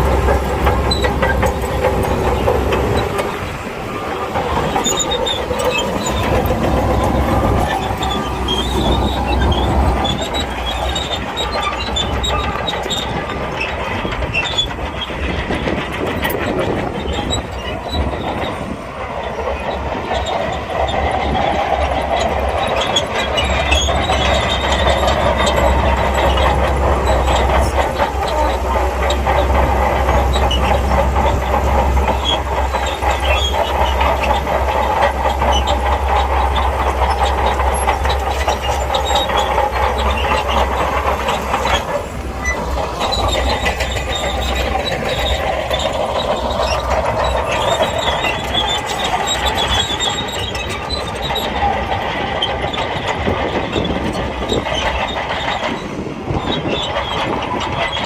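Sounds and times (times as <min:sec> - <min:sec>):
bulldozer diesel engine under load: 0:00.0 - 0:58.0
steel tracks clanking and squealing: 0:00.0 - 0:58.0.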